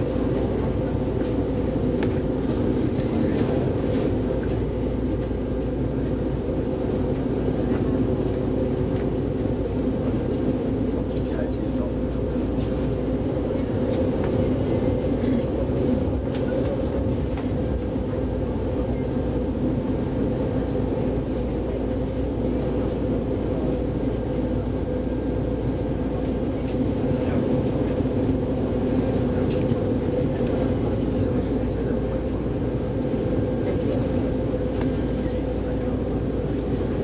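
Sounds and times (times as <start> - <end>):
train running rumble: 0.0 - 37.0.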